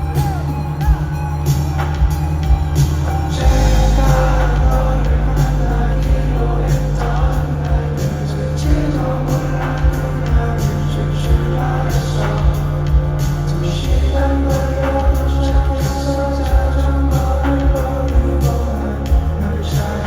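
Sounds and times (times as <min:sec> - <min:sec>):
person singing: 0:00.0 - 0:20.0.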